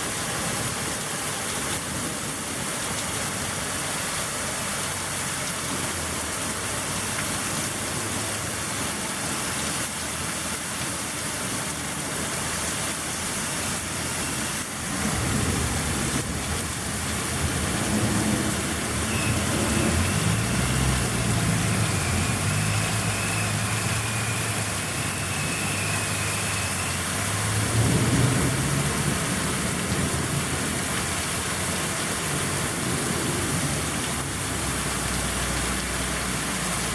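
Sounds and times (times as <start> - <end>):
heavy rain falling: 0.0 - 36.9.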